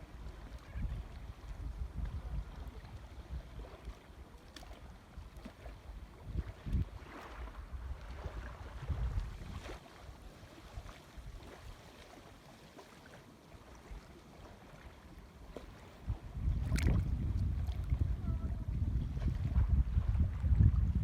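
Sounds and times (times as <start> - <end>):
wind rumbling on microphone: 0.0 - 12.0, 15.7 - 21.0.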